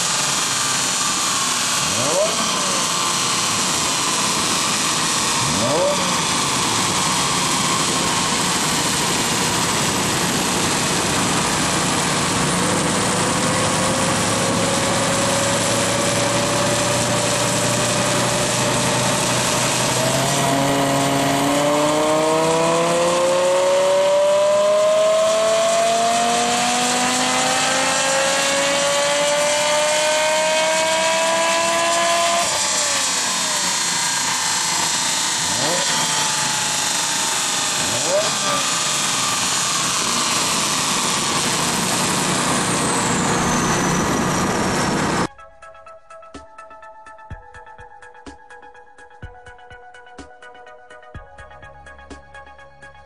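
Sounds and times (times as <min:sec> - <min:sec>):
car engine at full throttle: 0:00.0 - 0:45.3.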